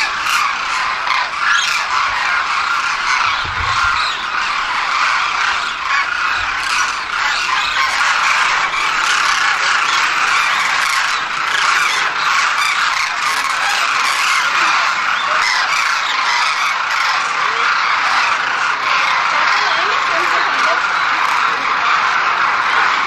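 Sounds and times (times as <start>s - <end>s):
flock of birds calling: 0.0s - 23.0s.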